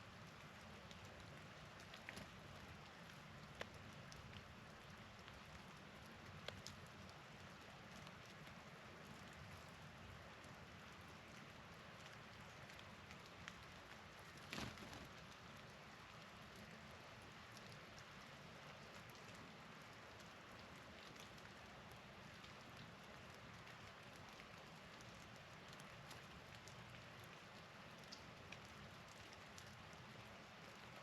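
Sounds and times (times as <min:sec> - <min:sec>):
patter of wet snow and drips: 0:00.0 - 0:31.0.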